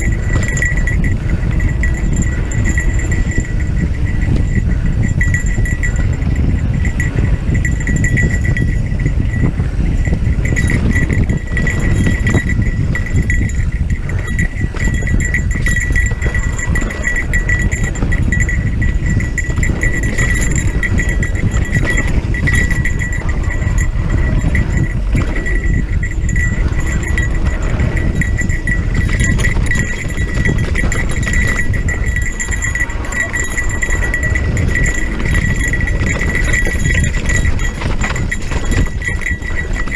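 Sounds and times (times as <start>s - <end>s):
bike rattling: 0.0s - 39.9s
wind on microphone: 0.0s - 39.9s.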